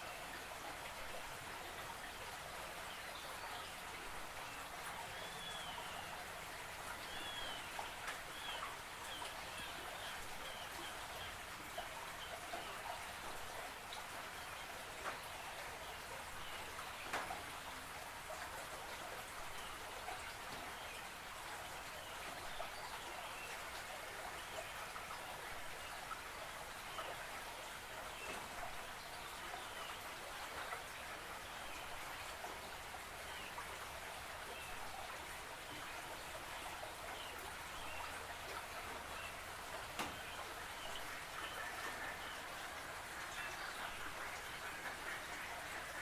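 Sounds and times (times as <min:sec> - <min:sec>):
creek water babbling: 0:00.0 - 0:46.0
small drip-like ticks: 0:00.0 - 0:46.0.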